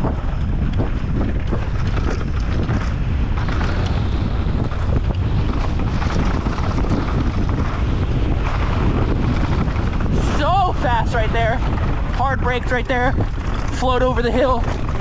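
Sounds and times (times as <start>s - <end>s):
bike tyres on dirt: 0.0s - 15.0s
wind buffeting microphone: 0.0s - 15.0s.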